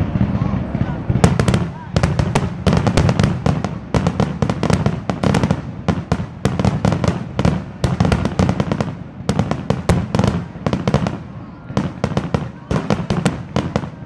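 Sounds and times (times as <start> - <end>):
fireworks exploding: 0.0 - 14.0.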